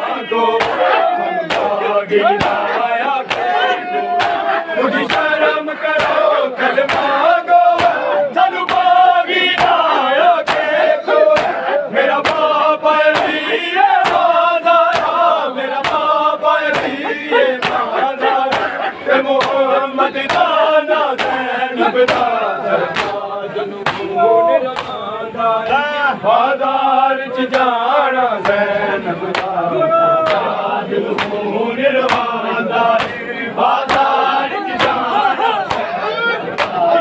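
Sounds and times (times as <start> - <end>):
men slapping chests in unison: 0.0 - 25.9, 27.4 - 37.0
male voices chanting: 0.0 - 37.0.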